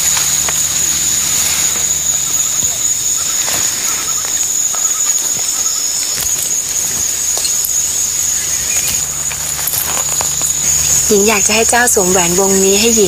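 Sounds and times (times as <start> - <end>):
high-pitched insect drone: 0.0 - 13.0
faint bird chirps: 0.8 - 13.0.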